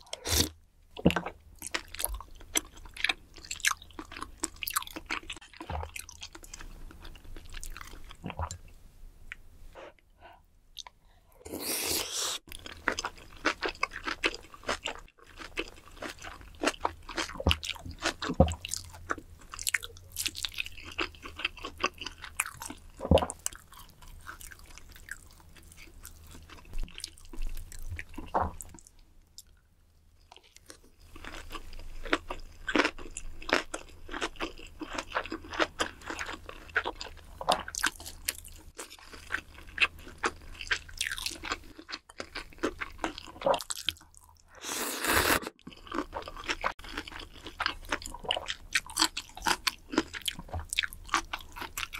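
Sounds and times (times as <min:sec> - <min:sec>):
person chewing food: 0:00.0 - 0:08.7, 0:10.8 - 0:29.6, 0:30.2 - 0:51.9.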